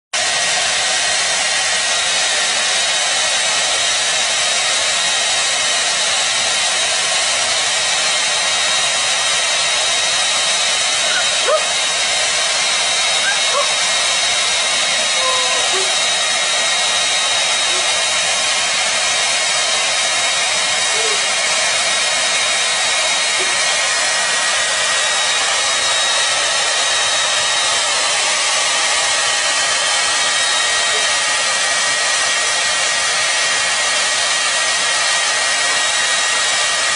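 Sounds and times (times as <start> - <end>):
hair dryer running: 0.1 - 36.9.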